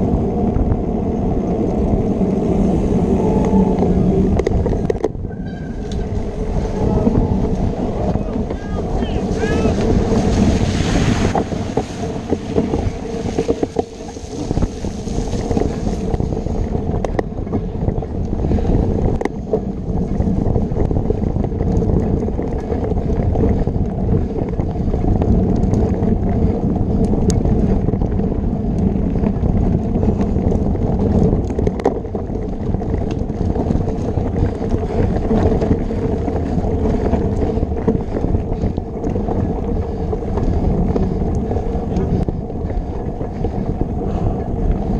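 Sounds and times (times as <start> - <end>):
bike rattling over bumps: 0.0 - 44.9
wind buffeting microphone: 0.0 - 44.9.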